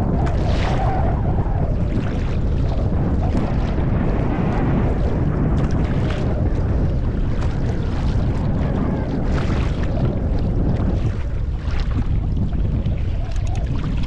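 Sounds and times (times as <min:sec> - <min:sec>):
water splashing against kayak: 0:00.0 - 0:14.0
wind buffeting microphone: 0:00.0 - 0:14.0.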